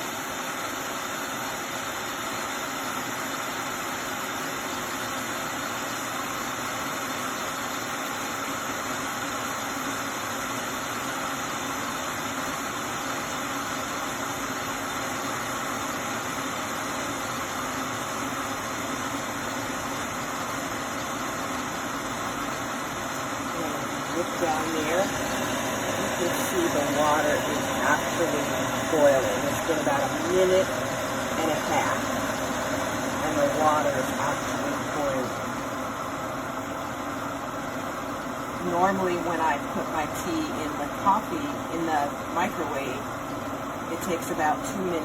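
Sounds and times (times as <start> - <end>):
electric kettle hissing: 0.0 - 45.0.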